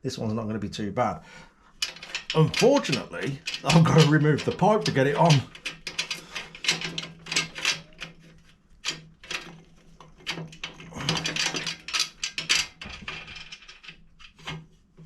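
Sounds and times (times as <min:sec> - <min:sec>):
hand tools clinking on metal: 0:01.8 - 0:14.0.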